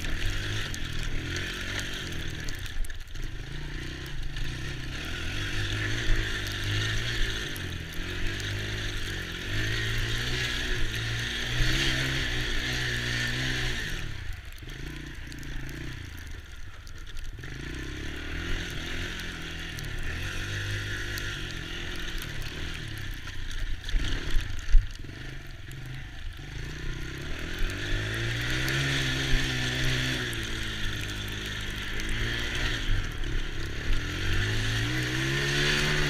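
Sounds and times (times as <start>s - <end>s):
small atv engine revving: 0.0s - 36.0s.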